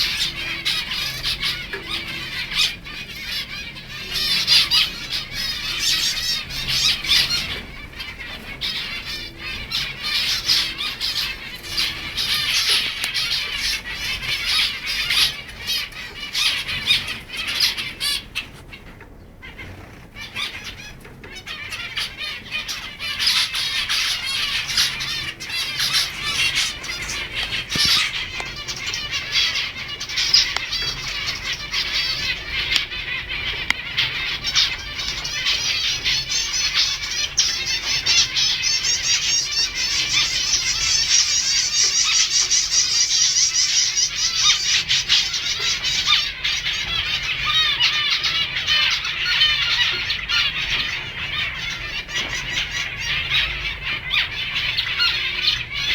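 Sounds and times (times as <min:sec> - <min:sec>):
flock of finches chattering: 0:00.0 - 0:55.9.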